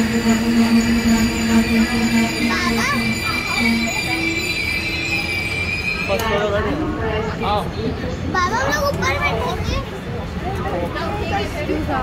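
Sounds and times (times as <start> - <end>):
train hum: 0.0 - 12.0
train wheels rumbling: 0.0 - 12.0.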